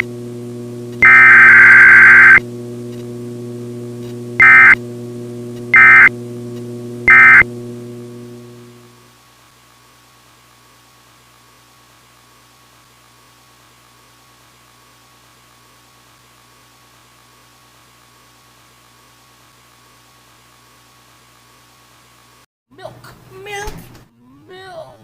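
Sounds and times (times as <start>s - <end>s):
electrical hum and hiss: 0.0s - 22.4s.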